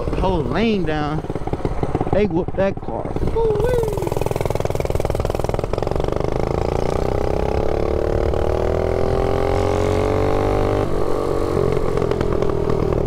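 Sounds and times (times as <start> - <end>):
mini bike engine accelerating: 0.0 - 13.0.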